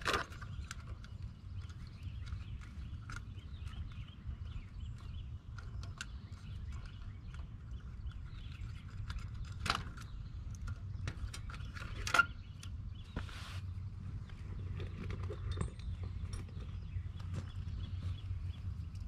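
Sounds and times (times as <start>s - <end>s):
birds chirping: 0.0s - 19.0s
low steady rumble: 0.0s - 19.0s.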